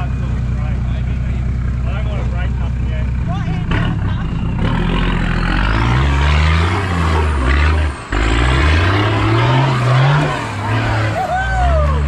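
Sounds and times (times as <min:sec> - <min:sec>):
engine revving under load: 0:02.0 - 0:12.0.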